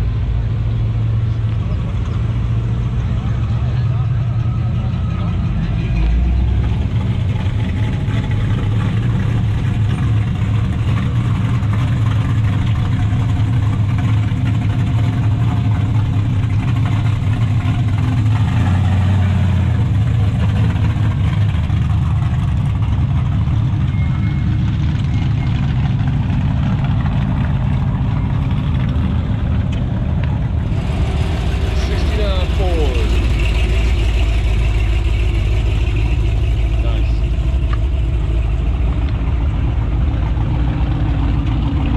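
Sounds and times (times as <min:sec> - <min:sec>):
cars driving past: 0:00.0 - 0:41.9.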